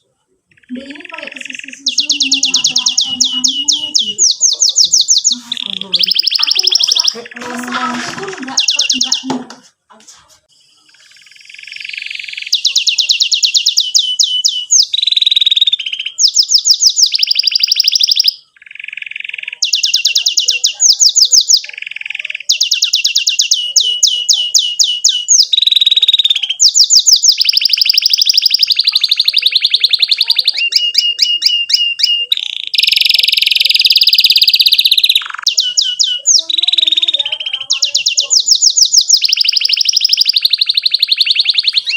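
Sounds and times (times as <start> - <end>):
canary singing chirps and trills: 0.0 - 41.9.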